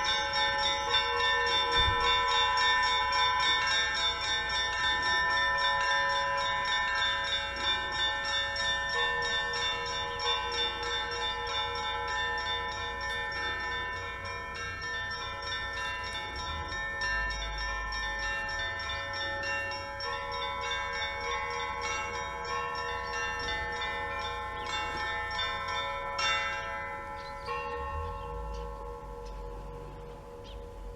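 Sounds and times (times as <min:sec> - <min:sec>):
large bells lingering tones: 0:00.0 - 0:30.9
small high bells ringing rapidly: 0:00.0 - 0:30.9.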